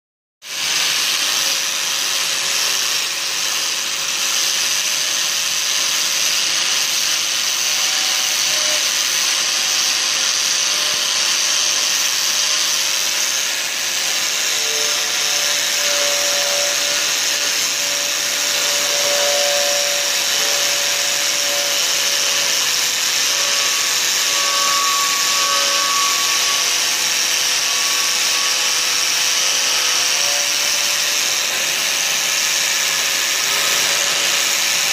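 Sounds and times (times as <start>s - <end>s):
grinder wheel hissing on steel: 0.4s - 34.9s
angle grinder motor whine: 0.5s - 34.9s.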